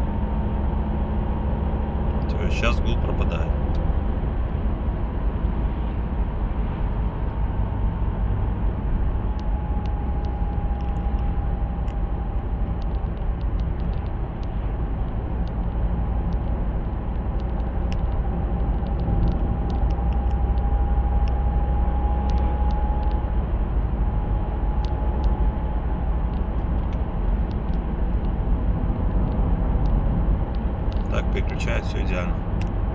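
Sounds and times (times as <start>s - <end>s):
car road and drivetrain rumble: 0.0s - 32.9s.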